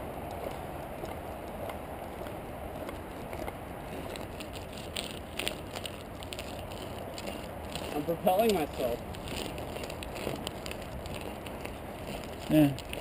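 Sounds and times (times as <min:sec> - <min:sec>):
bicycle tyres rolling: 0:00.0 - 0:13.0
bicycle clicks and rattles: 0:00.2 - 0:13.0.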